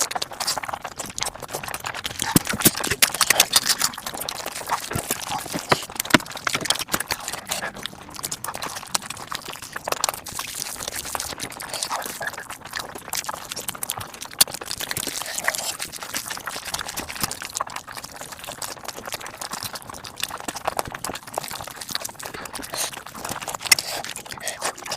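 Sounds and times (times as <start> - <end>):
rapid chewing and smacking: 0.0 - 24.9.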